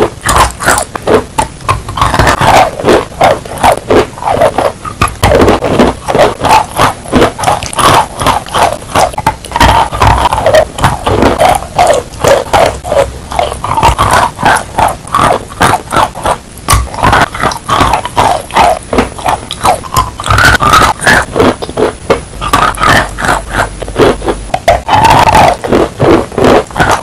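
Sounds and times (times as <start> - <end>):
wet crunching and chewing: 0.0 - 27.0.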